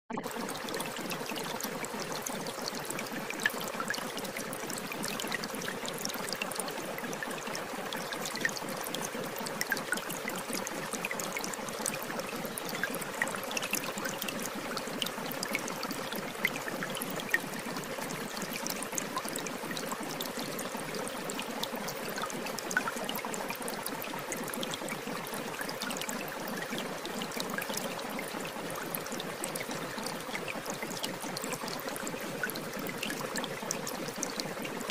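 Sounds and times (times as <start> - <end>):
water drips and splashes: 0.1 - 34.9.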